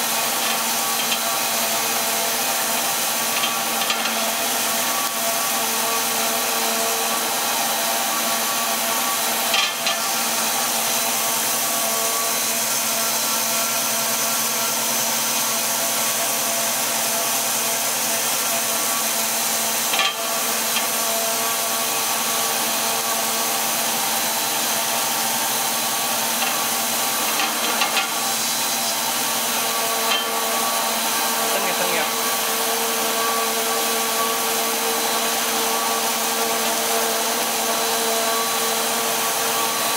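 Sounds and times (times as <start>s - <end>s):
machine humming and hissing: 0.0s - 39.9s.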